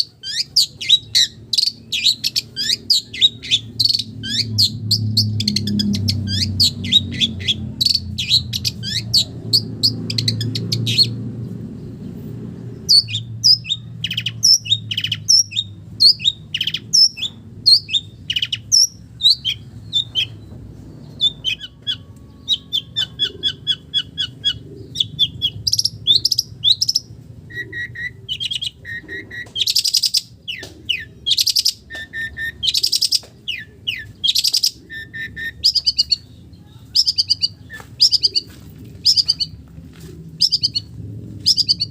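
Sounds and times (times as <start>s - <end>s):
bird singing chattering song: 0.0s - 39.6s, 40.2s - 41.9s
harsh rasping bird calls: 0.0s - 41.9s.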